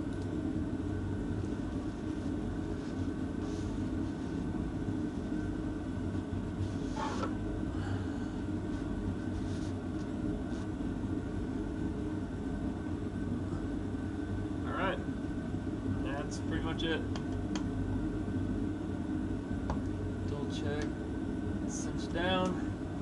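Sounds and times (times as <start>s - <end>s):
low mechanical drone: 0.0s - 23.0s.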